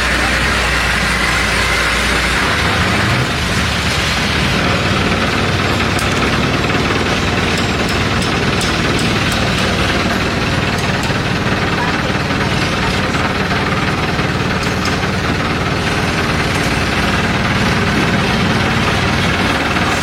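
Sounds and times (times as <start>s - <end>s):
boat engine running loudly: 0.0s - 20.0s.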